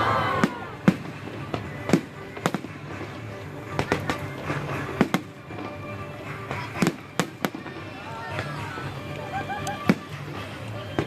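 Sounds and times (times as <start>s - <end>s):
fireworks bursting bangs: 0.0s - 8.6s, 9.8s - 11.0s
background music: 0.0s - 11.0s.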